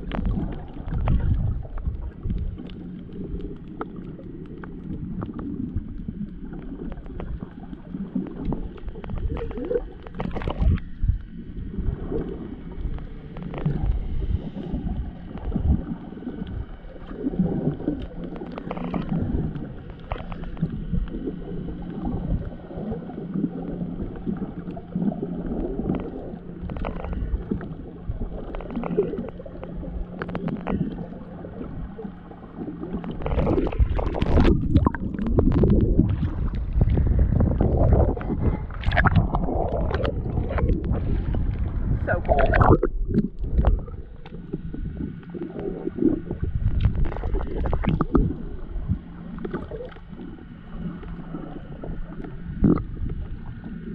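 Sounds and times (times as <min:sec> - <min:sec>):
boat motor hum: 0:00.0 - 0:53.9
muffled water gurgling and sloshing: 0:00.0 - 0:53.9.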